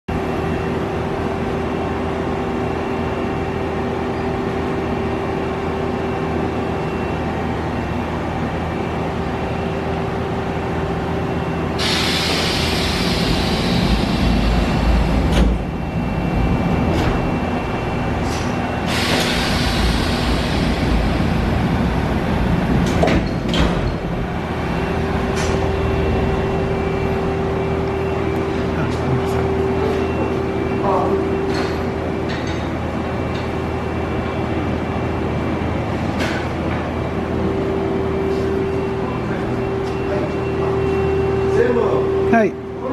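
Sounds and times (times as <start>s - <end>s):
machinery humming: 0.1s - 42.9s.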